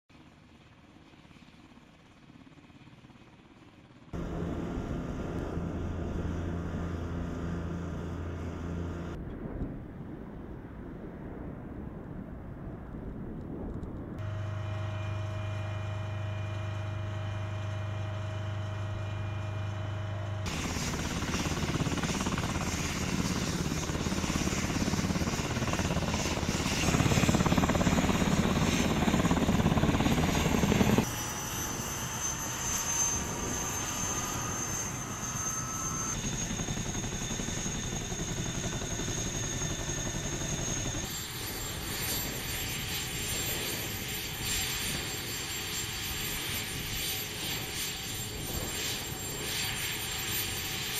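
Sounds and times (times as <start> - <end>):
helicopter turbine whine: 0.1 - 9.2, 14.2 - 50.9
helicopter rotors beating: 0.2 - 9.2, 14.1 - 50.9.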